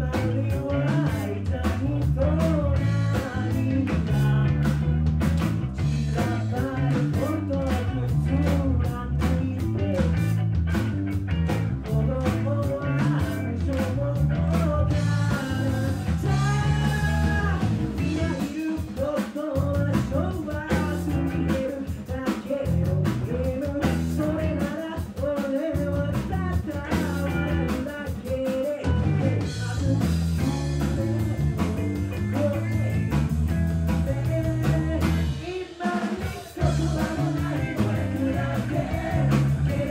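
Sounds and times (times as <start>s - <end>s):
electric bass: 0.0s - 18.7s, 19.5s - 24.9s, 25.6s - 28.0s, 28.7s - 35.5s, 36.5s - 39.9s
drum kit: 0.0s - 39.9s
man singing lead: 0.0s - 39.9s.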